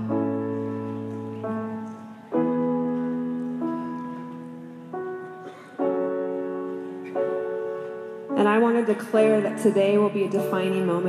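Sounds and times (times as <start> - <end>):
piano playing slow chords: 0.0 - 11.0.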